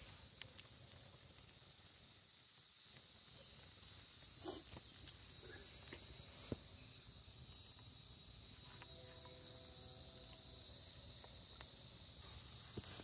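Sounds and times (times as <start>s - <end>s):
campfire pops and crackles: 0.0s - 13.0s
insect chorus drone: 0.0s - 13.0s.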